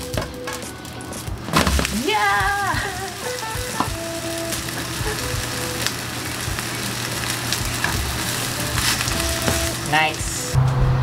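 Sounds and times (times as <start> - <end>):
batter sizzling in a pan: 0.0 - 10.6.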